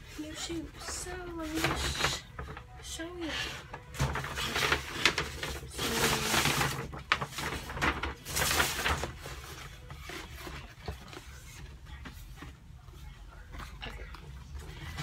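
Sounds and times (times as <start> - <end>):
paper bag rustling and crinkling: 0.0 - 15.0.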